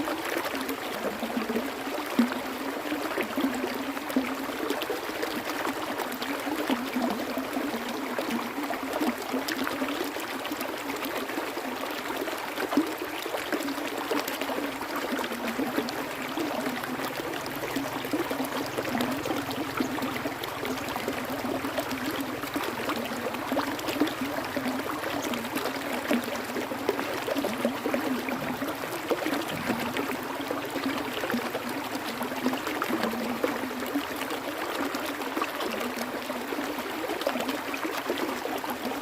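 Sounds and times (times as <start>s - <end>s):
water flowing: 0.0s - 39.0s
water splashing and gurgling: 0.0s - 39.0s.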